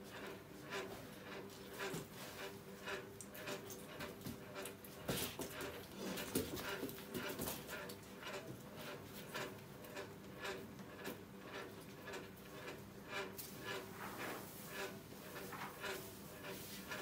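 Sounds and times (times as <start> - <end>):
horses moving in stall: 0.0 - 17.0.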